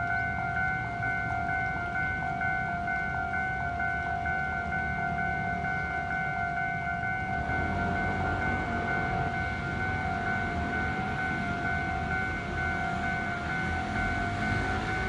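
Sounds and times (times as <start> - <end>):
level crossing alarm tone: 0.0 - 15.0.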